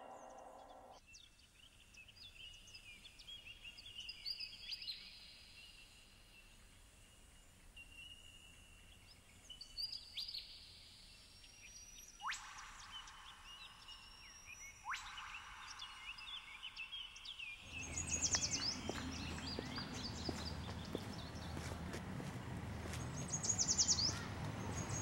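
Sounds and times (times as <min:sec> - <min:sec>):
faint birdsong: 0:00.0 - 0:25.0.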